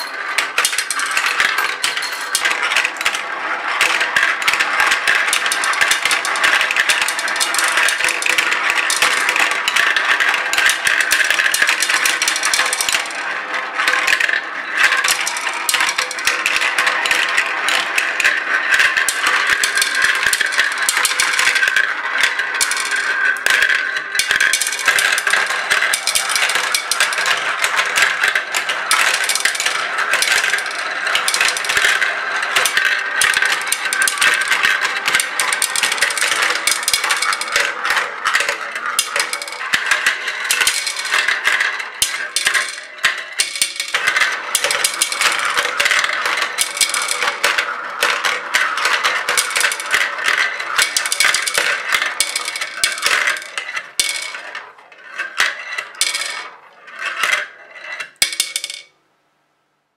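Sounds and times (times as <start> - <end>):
balls rattling through plastic marble run: 0.0 - 59.0.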